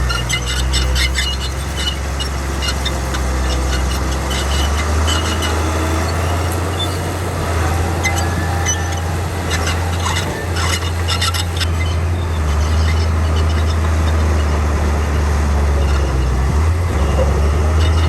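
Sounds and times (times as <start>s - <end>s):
bulldozer diesel engine under load: 0.0s - 18.0s
metallic squeaks and clanks of tracks: 0.0s - 18.0s.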